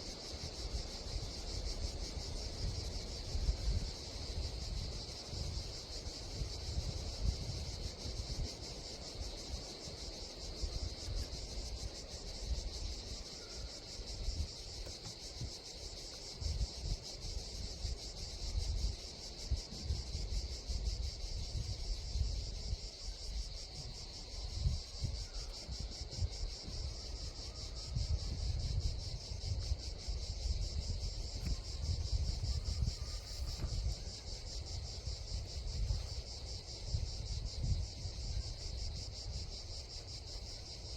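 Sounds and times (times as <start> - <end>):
insects chirring: 0.0 - 40.9
wind buffeting microphone: 0.0 - 40.9.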